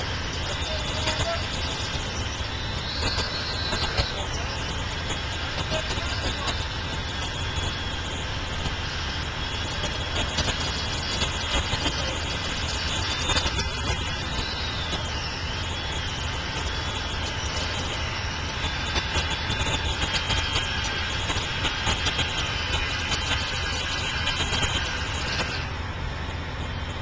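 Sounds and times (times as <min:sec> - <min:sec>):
thin wavering high tone: 0:00.0 - 0:25.8
engine idling: 0:00.0 - 0:27.0.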